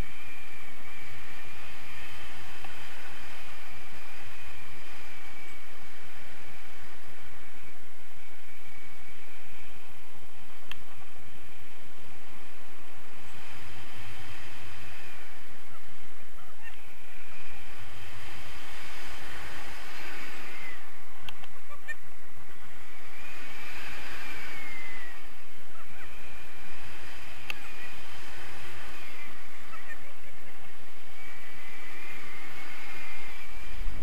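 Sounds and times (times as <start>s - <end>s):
faint high wavering tone: 0.0s - 34.0s
wind rumbling on microphone: 0.0s - 34.0s.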